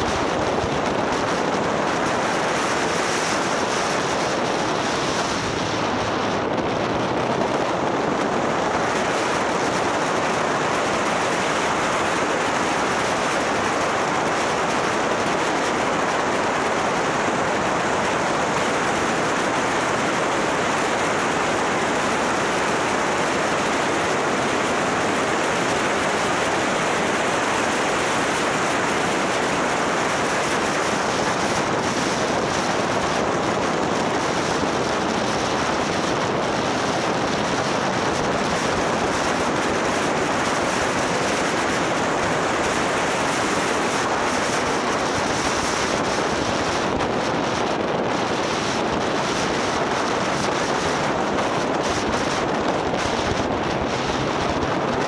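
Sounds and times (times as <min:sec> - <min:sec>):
motorcycle road noise: 0:00.0 - 0:55.0
wind rush: 0:00.0 - 0:55.0.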